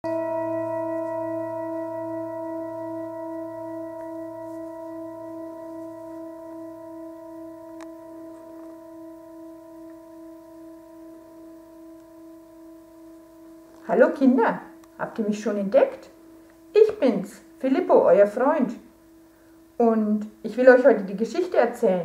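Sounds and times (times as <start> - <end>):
metal singing bowl ringing: 0.0 - 19.2.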